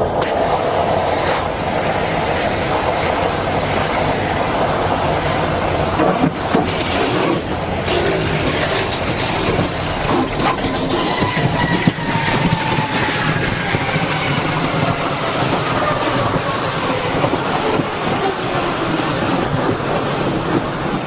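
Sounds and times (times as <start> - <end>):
airplane rumble: 0.0 - 21.0
rattling and clatter: 1.3 - 18.4.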